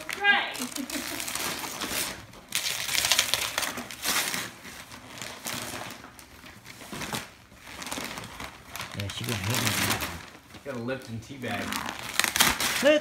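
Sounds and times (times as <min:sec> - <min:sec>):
wrapping paper rustling: 0:00.0 - 0:13.0.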